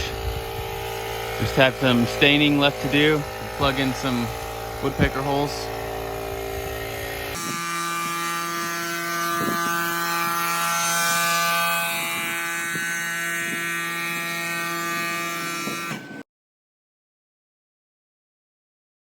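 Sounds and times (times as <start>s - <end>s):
power tool motor running: 0.0s - 16.2s.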